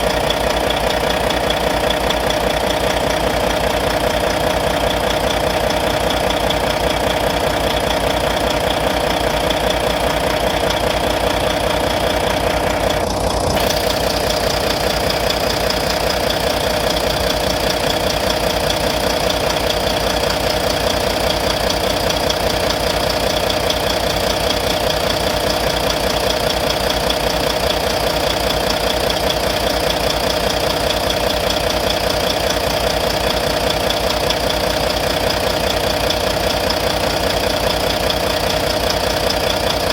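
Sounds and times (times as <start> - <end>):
diesel engine idling: 0.0 - 39.9
rapid engine tapping tick: 0.0 - 39.9.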